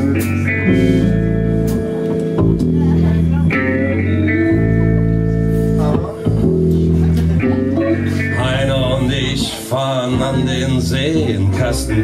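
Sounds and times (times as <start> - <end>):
electric guitar chords: 0.0 - 12.0
live band playing: 0.0 - 12.0
upright bass walking line: 0.0 - 12.0.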